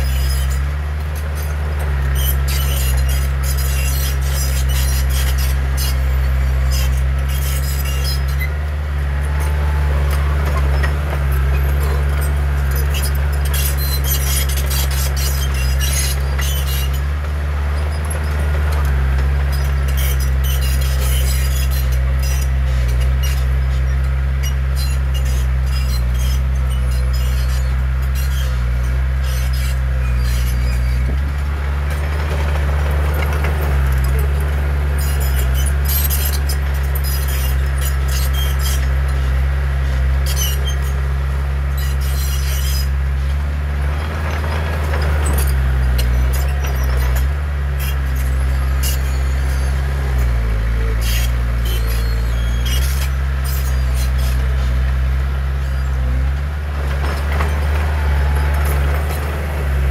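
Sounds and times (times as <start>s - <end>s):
bulldozer diesel engine under load: 0.0s - 59.9s
steel tracks clanking and squeaking: 0.0s - 59.9s.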